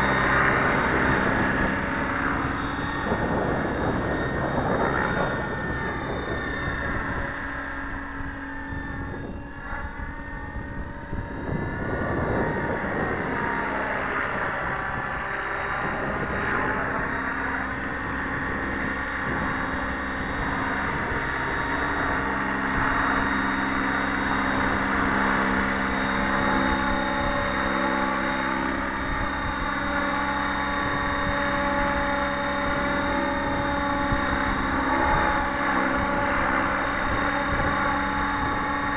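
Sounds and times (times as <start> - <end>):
model helicopter rotors buzzing: 0.0 - 38.9.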